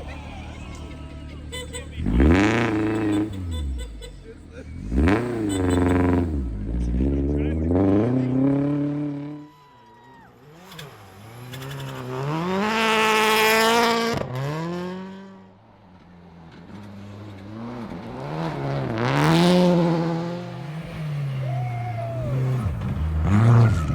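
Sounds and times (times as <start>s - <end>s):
rally car engines revving: 0.0s - 23.9s.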